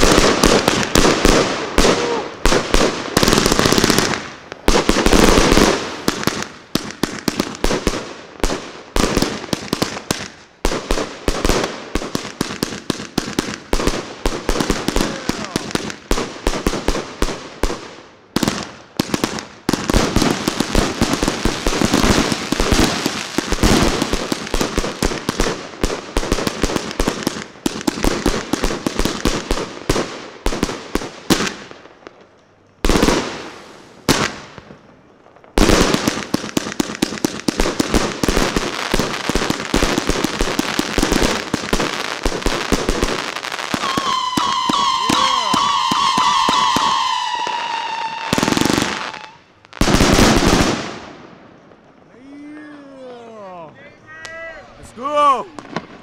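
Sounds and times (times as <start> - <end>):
firework shots and bursting shells: 0.0 - 32.0, 32.8 - 34.8, 35.4 - 52.1, 55.5 - 56.0.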